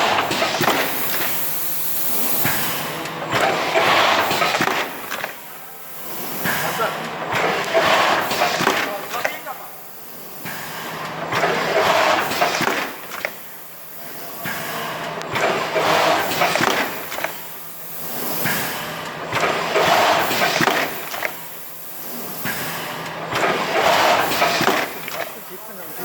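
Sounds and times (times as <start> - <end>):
thermoforming machine air rush: 0.0 - 26.0
machine clicks: 0.1 - 5.5, 6.3 - 9.6, 10.3 - 26.0.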